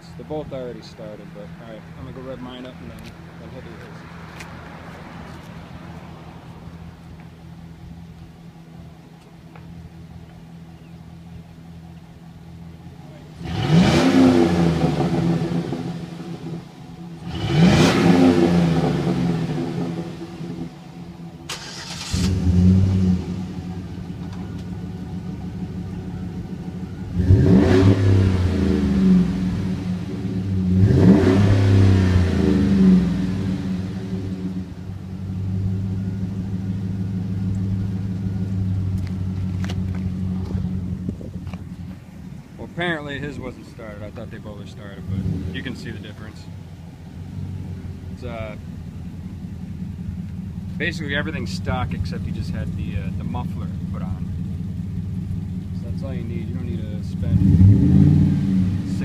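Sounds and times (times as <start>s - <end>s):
truck engine idling and revving: 0.0s - 59.0s.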